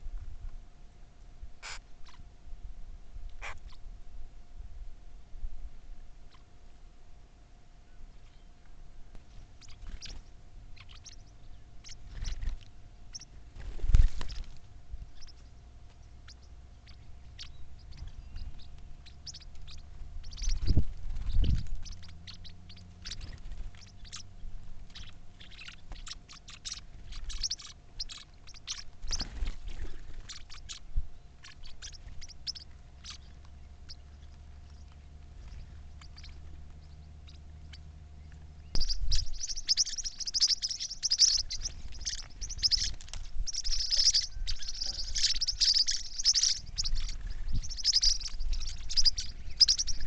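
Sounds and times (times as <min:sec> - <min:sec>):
faint steady hum: 0:00.0 - 0:50.0
birds chirping: 0:07.9 - 0:50.0.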